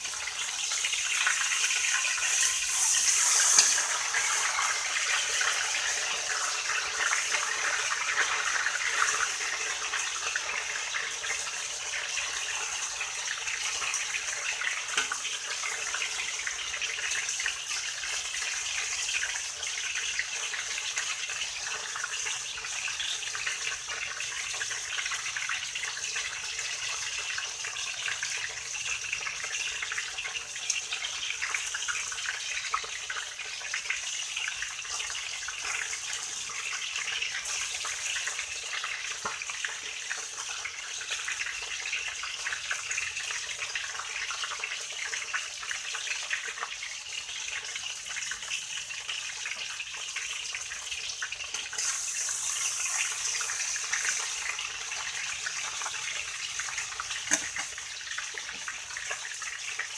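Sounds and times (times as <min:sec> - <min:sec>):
fish sizzling in hot oil: 0:00.0 - 0:59.9.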